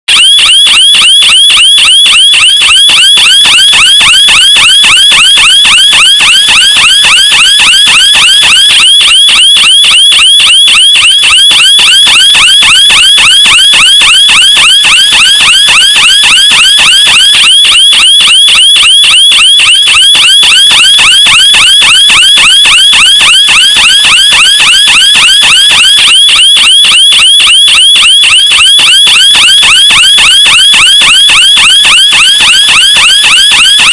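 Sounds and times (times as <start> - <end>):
car alarm siren warbling: 0.1 - 33.9.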